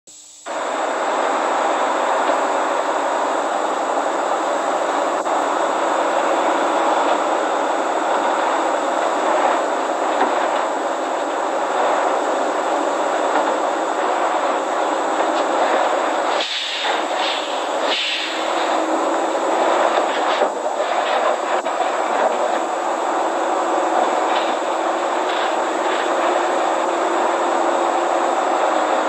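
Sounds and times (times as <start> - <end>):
excavator engine droning: 0.1 - 29.0.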